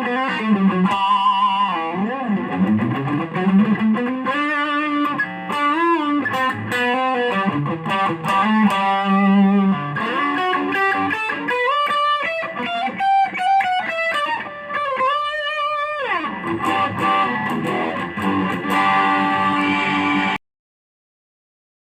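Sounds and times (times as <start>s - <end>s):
electric guitar lead line: 0.0s - 20.4s.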